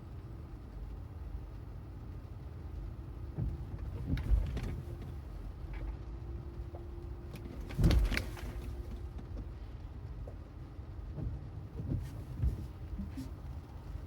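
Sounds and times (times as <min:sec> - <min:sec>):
road and tyre noise: 0:00.0 - 0:14.0.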